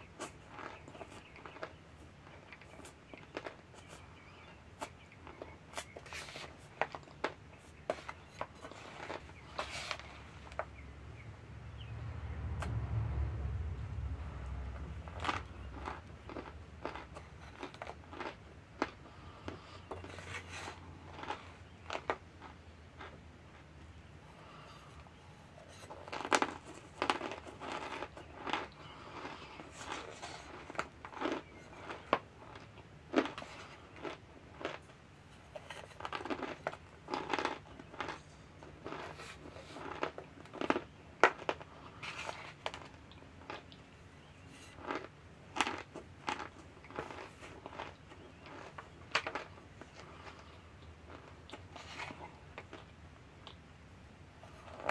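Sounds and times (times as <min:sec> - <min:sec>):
crunchy chewing: 0:00.0 - 0:10.8, 0:12.5 - 0:53.7, 0:54.3 - 0:54.9.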